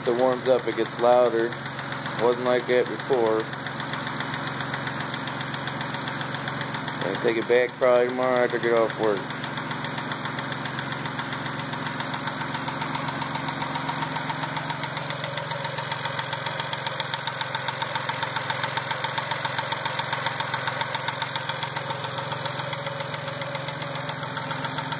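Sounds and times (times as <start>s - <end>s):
engine idling: 0.0s - 24.9s
rapid engine ticking knock: 0.0s - 24.9s.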